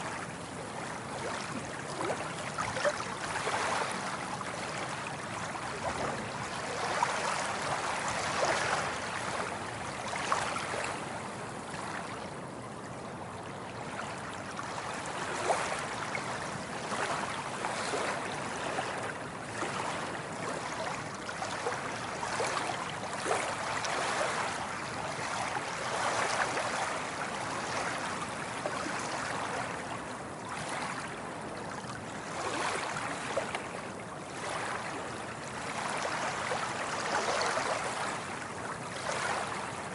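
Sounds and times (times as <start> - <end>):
small waves lapping and splashing: 0.0 - 39.9.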